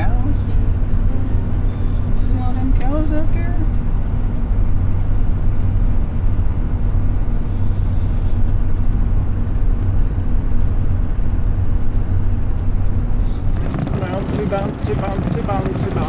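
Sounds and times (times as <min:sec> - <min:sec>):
pickup truck engine driving: 0:00.0 - 0:07.8, 0:08.4 - 0:16.0
road rumble: 0:00.0 - 0:16.0.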